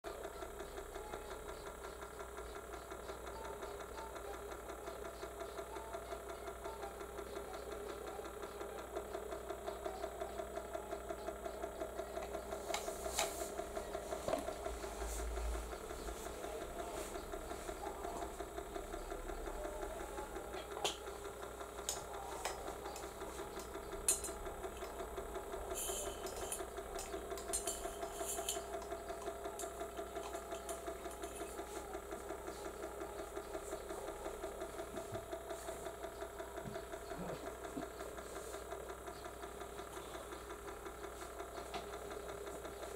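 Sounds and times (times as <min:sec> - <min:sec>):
small electric motor humming: 0:00.1 - 0:42.9.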